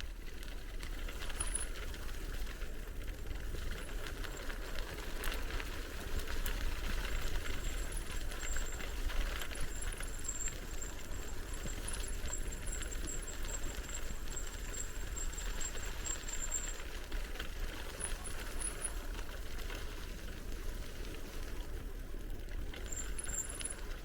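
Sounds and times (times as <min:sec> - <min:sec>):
bicycle tyre noise: 0:00.0 - 0:24.0.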